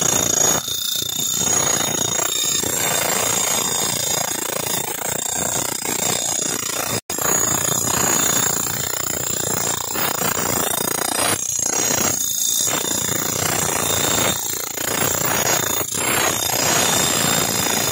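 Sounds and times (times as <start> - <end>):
power tampers vibrating clatter: 0.0 - 17.9.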